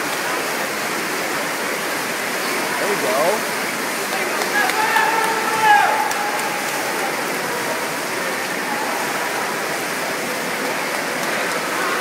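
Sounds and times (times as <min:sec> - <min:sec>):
swimmers splashing: 0:00.0 - 0:12.0.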